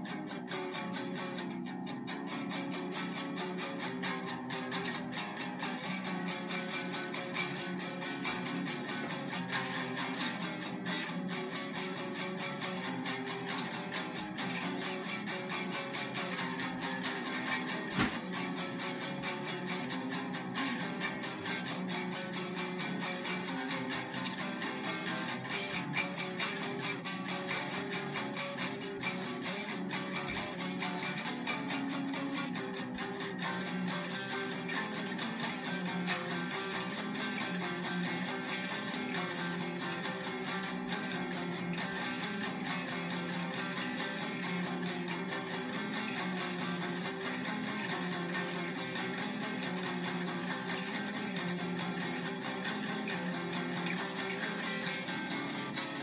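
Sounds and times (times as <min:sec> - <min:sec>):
stick striking electric guitar strings: 0:00.0 - 0:56.0.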